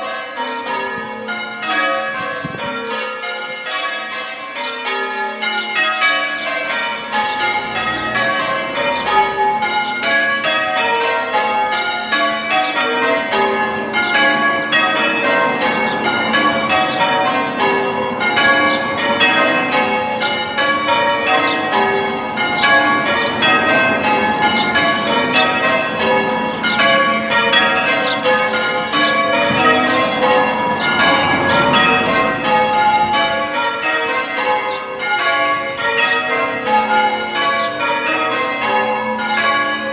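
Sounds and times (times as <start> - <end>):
church bells ringing changes: 0.0 - 39.9.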